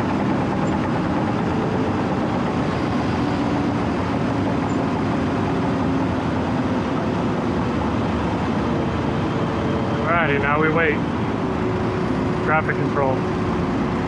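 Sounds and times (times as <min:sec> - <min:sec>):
diesel engine running steadily: 0:00.0 - 0:14.0.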